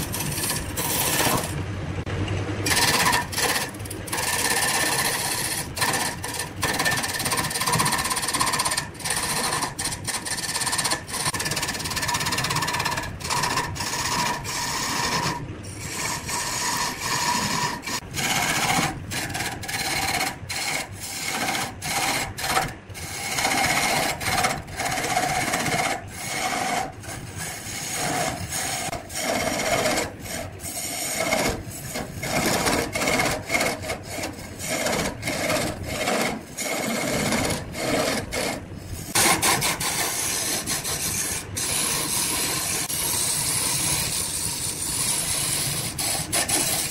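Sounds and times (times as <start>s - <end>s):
lathe tool scraping wood: 0.0s - 1.6s, 2.6s - 46.9s.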